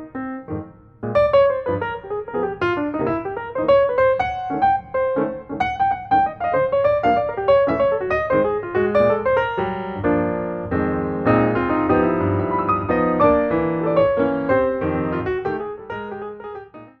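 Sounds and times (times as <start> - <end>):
piano background music: 0.0 - 17.0.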